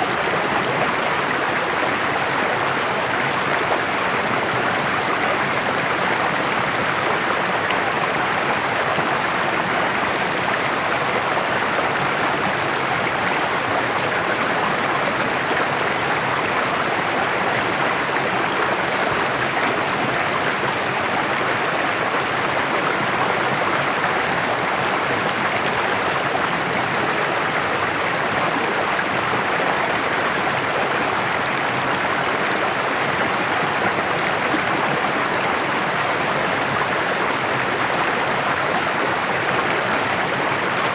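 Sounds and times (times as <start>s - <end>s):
creek babbling over rocks: 0.0s - 40.9s.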